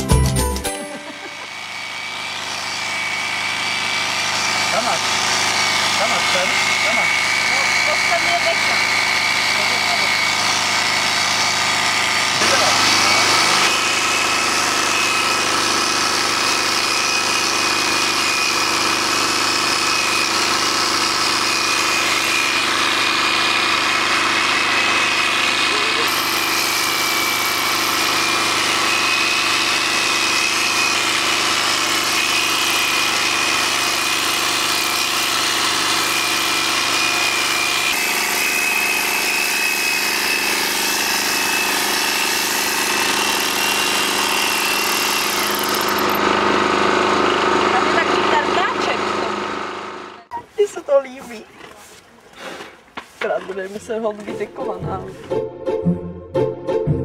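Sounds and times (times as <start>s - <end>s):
electric clippers whining: 0.0s - 50.3s.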